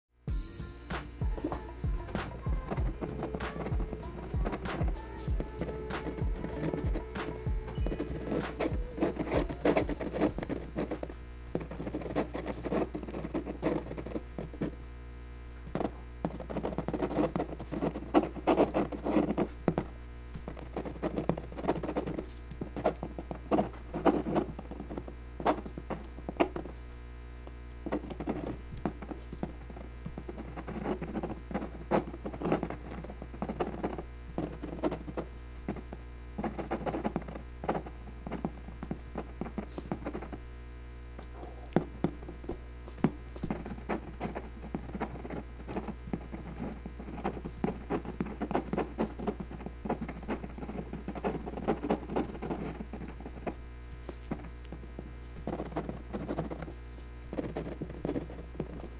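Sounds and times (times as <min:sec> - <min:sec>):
faint low hum: 0:00.2 - 0:58.9
pen nib scratching on paper: 0:01.3 - 0:14.9, 0:15.7 - 0:26.8, 0:27.8 - 0:40.4, 0:41.2 - 0:58.9.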